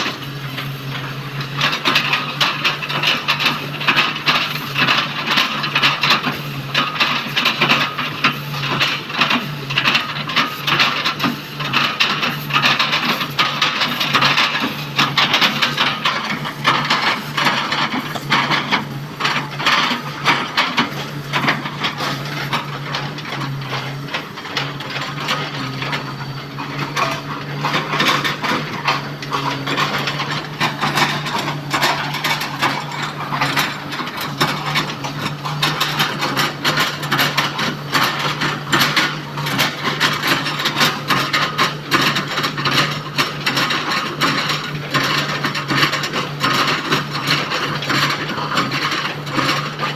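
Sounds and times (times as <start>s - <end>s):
excavator engine humming: 0.0s - 49.8s.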